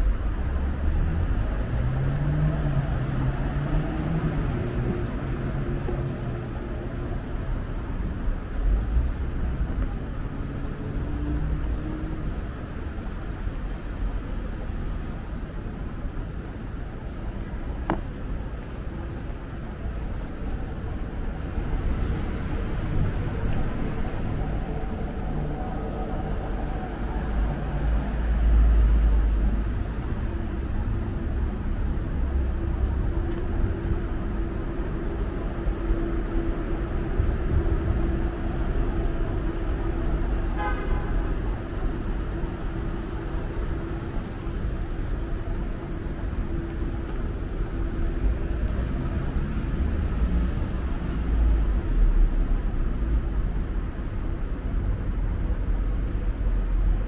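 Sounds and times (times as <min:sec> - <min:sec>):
large vehicles rumbling: 0:00.0 - 0:57.0
passing cars and buses: 0:00.0 - 0:57.0.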